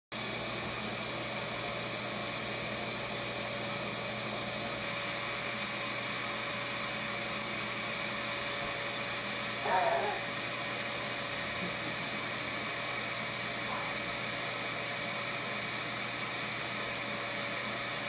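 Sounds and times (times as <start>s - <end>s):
vacuum cleaner running: 0.1s - 18.0s.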